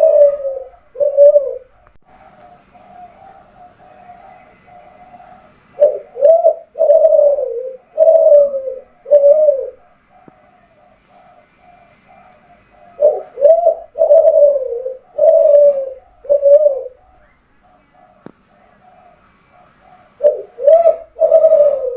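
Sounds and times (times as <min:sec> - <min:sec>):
dove cooing: 0:00.0 - 0:21.9
faint dove cooing: 0:00.0 - 0:21.9.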